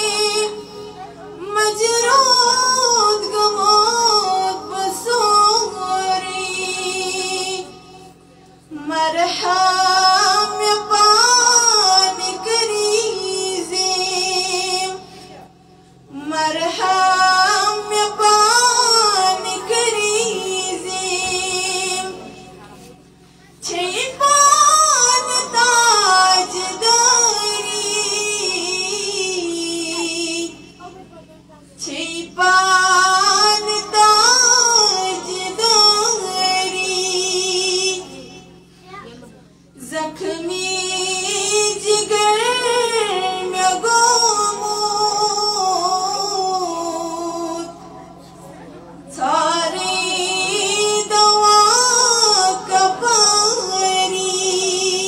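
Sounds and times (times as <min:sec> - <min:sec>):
woman singing unaccompanied: 0:00.0 - 0:15.4, 0:16.1 - 0:22.6, 0:23.6 - 0:38.5, 0:39.8 - 0:48.1, 0:49.1 - 0:55.0.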